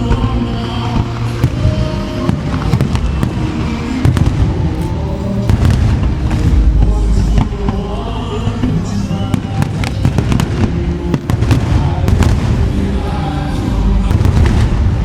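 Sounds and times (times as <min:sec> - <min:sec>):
fireworks bursting and crackling: 0:00.0 - 0:15.0
loud music soundtrack: 0:00.0 - 0:15.0.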